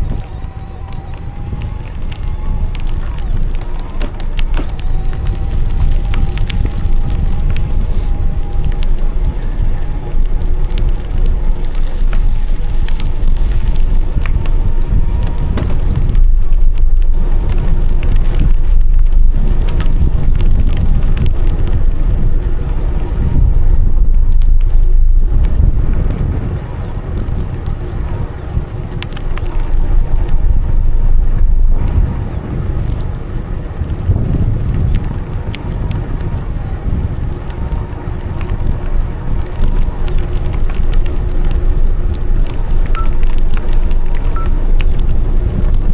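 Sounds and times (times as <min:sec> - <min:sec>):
bicycle frame rattling: 0:00.0 - 0:45.9
small clicks and knocks: 0:00.0 - 0:45.9
wind rumbling on microphone: 0:00.0 - 0:45.9.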